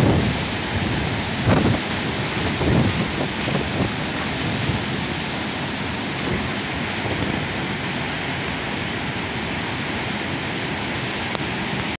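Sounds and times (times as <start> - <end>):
wind buffeting microphone: 0.0 - 11.9
heavy surf: 0.0 - 12.0.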